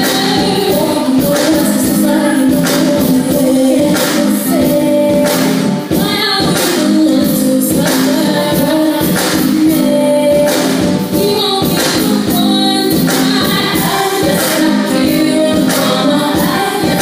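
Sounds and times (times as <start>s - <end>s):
loud music with singing: 0.0s - 17.0s.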